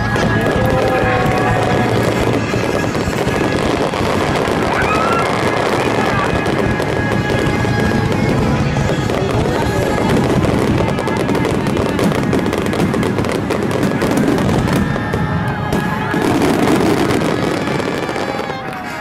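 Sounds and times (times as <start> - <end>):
fireworks bursting and crackling: 0.0 - 19.0
music playing: 0.0 - 19.0.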